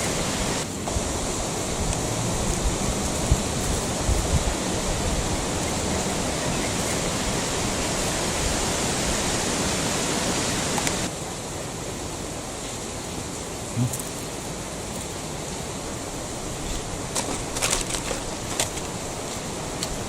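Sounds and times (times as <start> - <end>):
rush of flowing water: 0.0 - 20.0.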